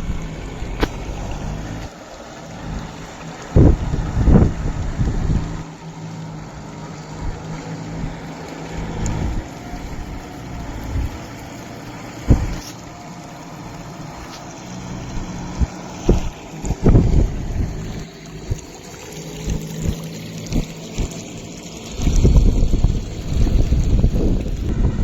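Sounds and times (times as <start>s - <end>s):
wind buffeting microphone: 0.0s - 1.9s, 2.5s - 25.0s
tractor diesel engine running: 0.0s - 25.0s.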